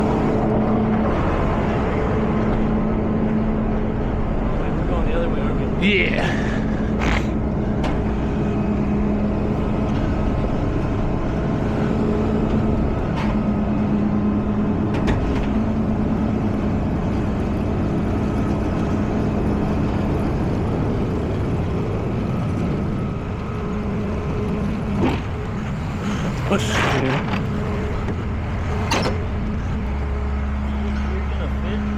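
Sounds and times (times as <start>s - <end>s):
truck engine humming: 0.0s - 31.9s.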